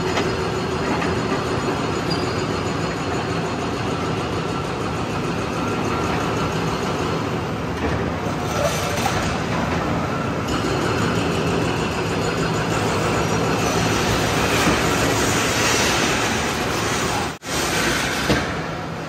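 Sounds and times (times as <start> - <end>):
diesel machinery running: 0.0 - 19.0.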